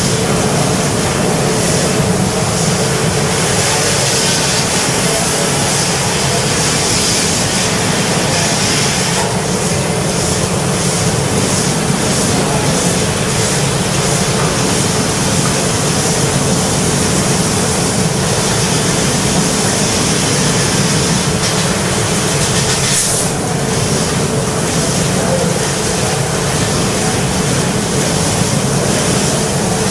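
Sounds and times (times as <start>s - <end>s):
laser cutter jet hissing: 0.0s - 29.9s.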